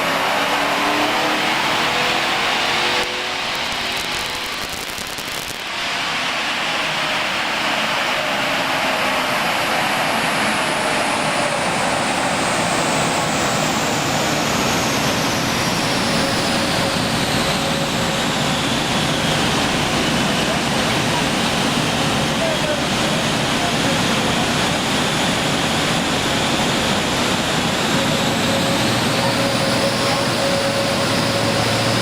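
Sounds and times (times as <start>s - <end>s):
faint whine falling in pitch: 0.0s - 32.0s
loud steady rush: 0.0s - 32.0s.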